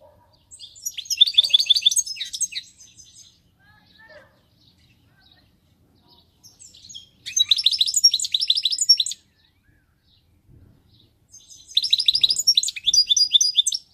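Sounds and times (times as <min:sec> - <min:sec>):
goldfinch twittering song: 0:00.3 - 0:05.6, 0:06.2 - 0:13.9.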